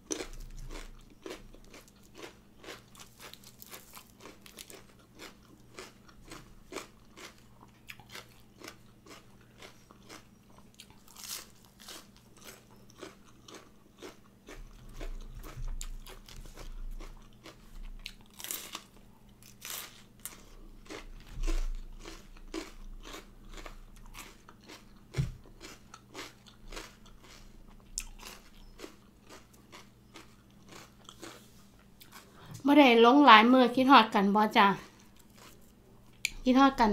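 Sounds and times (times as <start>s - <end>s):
chewing crisp raw vegetables: 0.0s - 32.4s, 34.8s - 36.5s.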